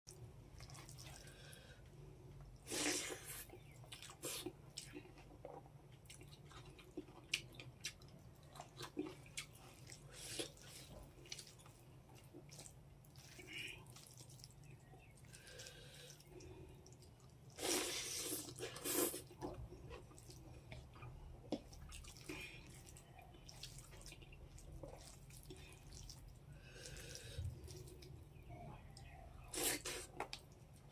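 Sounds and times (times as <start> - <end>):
wet chewing: 0.1 - 1.6, 2.6 - 30.9
low steady hum: 0.1 - 30.9.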